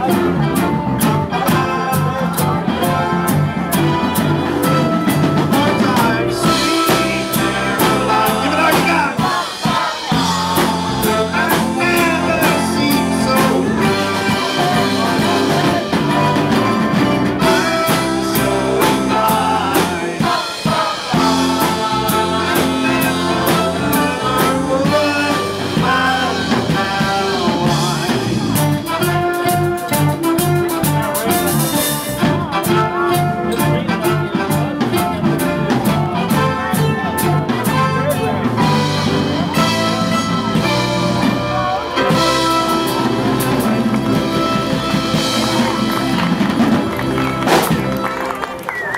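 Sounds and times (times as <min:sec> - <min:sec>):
small live band playing: 0:00.0 - 0:48.9.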